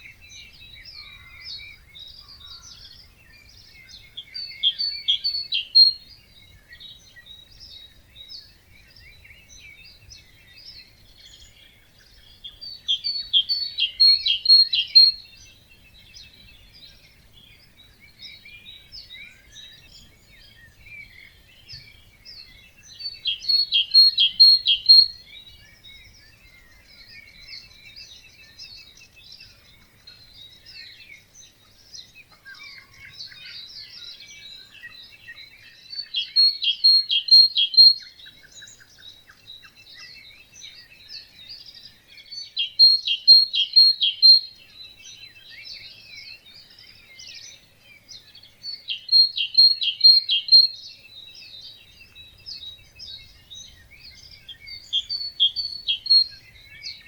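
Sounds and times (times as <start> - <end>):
birds chorus singing: 0.0 - 57.0
nearby bird loud song: 0.0 - 57.0.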